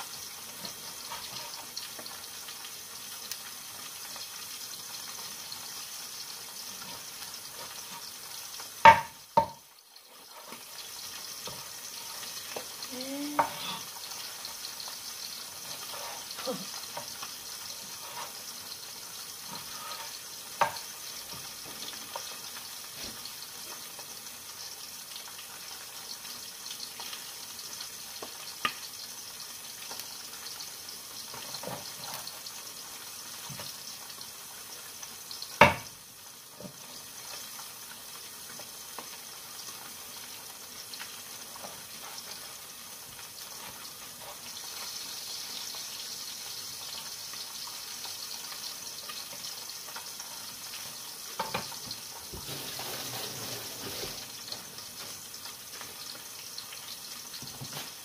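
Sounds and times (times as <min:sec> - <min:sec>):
pot hissing on stove: 0:00.0 - 0:58.0.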